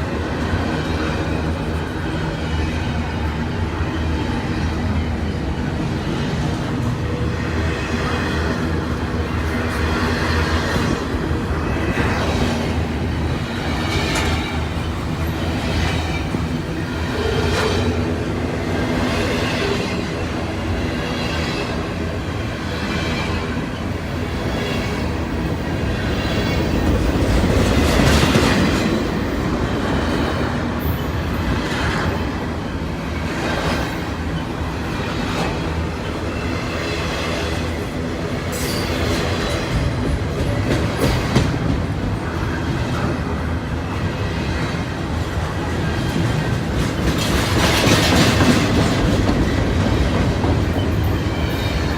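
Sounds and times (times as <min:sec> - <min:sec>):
freight train wheels clattering: 0:05.6 - 0:51.9.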